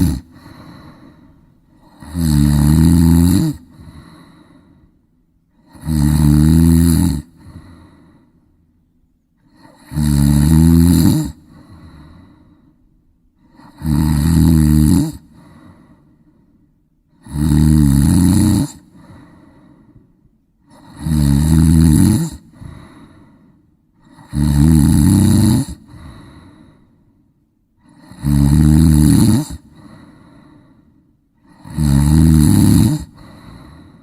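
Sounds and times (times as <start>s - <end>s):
person snoring: 0.0s - 4.9s, 5.5s - 8.4s, 9.4s - 12.8s, 13.4s - 16.4s, 17.1s - 20.0s, 20.6s - 27.0s, 27.8s - 34.0s.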